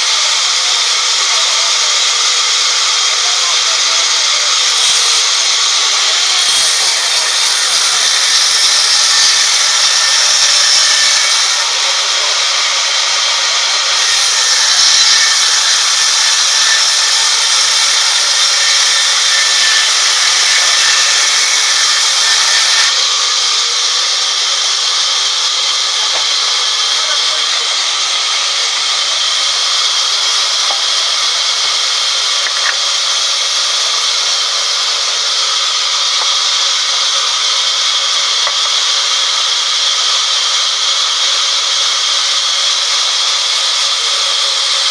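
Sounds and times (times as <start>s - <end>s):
band saw cutting wood: 0.0s - 44.9s.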